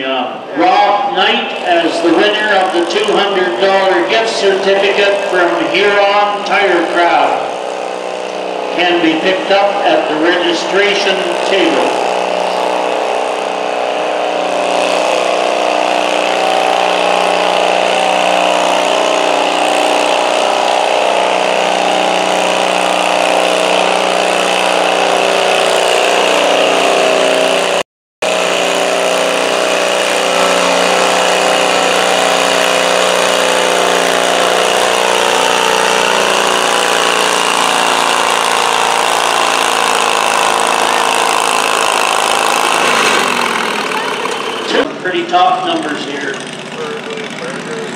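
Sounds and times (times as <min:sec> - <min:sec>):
tractor engine running at high revs: 0:00.0 - 0:47.9.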